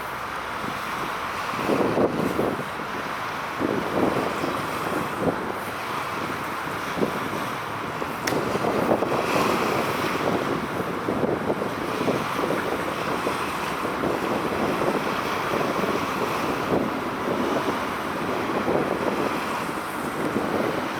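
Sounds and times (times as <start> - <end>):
wind buffeting microphone: 0.6 - 20.9.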